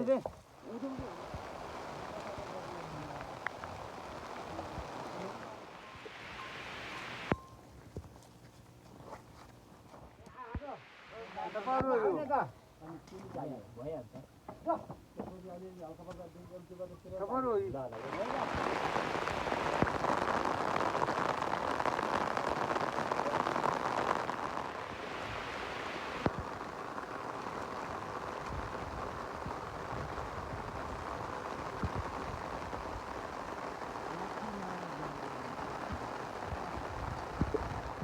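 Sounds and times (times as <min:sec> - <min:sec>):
rain falling: 0:00.0 - 0:08.1, 0:09.8 - 0:12.4, 0:14.6 - 0:38.0.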